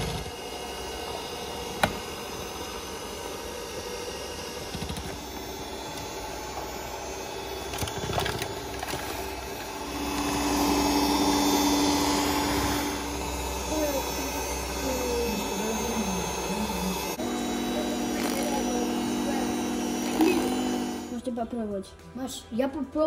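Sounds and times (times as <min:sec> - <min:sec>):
electric hand mixer running: 0:00.0 - 0:21.3.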